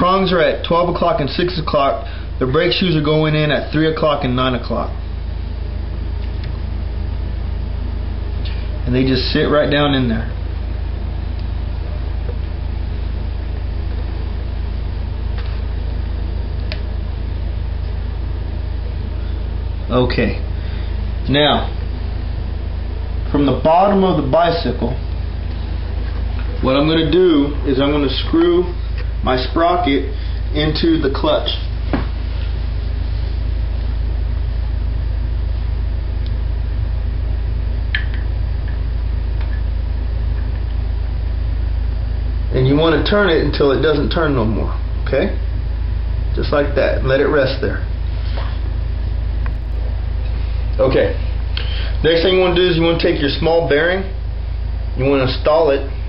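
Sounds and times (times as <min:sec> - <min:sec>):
low background hum: 0:00.0 - 0:56.0.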